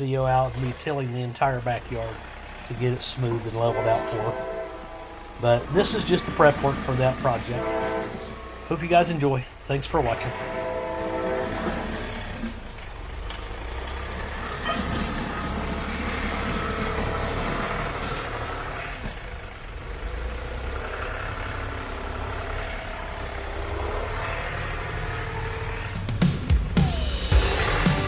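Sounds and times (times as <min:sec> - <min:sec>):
faint whining tone: 0:00.0 - 0:26.2
diesel tractor running: 0:00.0 - 0:28.0.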